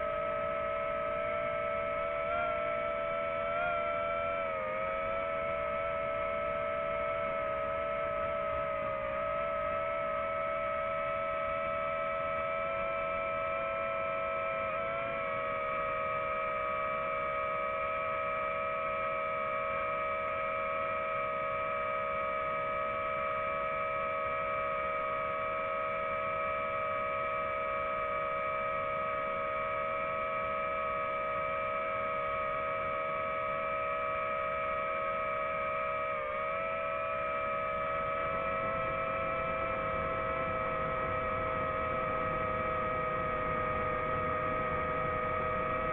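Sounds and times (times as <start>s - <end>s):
drone propellers whining: 0.0s - 19.1s, 27.8s - 45.9s.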